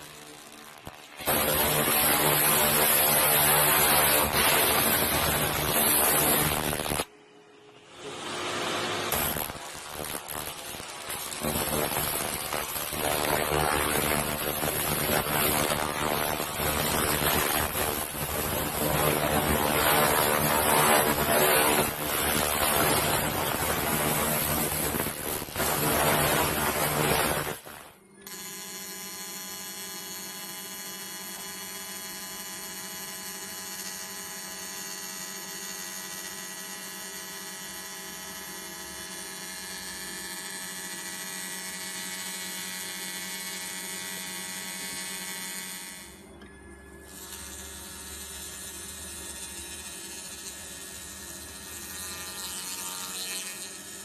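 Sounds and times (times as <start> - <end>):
laser cleaning machine buzzing: 0.0 - 7.1, 8.0 - 54.0.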